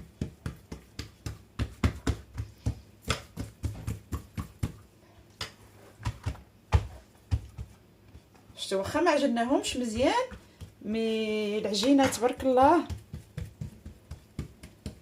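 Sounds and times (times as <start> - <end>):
hands kneading dough: 0.0 - 15.0.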